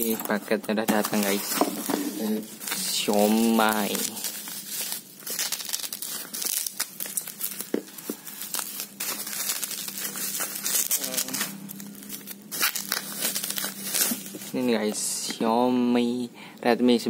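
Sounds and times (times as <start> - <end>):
bubble wrap crinkling: 0.0 - 15.1.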